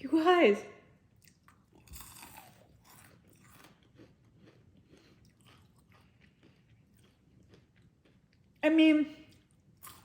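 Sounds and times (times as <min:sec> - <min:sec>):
crunchy chewing of snack: 0:01.1 - 0:08.6, 0:09.2 - 0:10.0.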